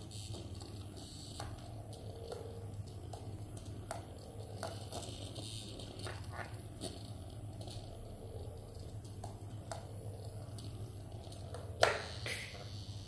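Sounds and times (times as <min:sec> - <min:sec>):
vibrating toy buzzing: 0:00.0 - 0:13.0.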